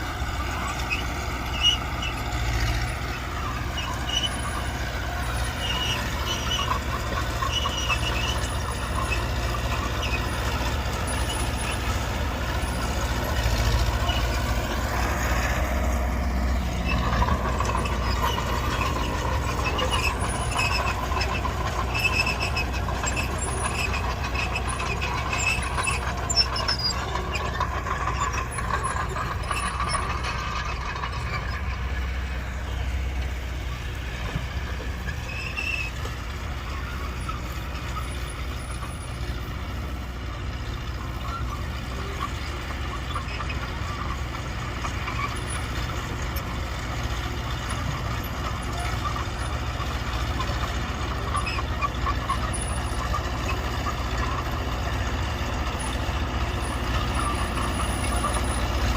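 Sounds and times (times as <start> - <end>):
diesel engine rumbling: 0.0 - 58.9.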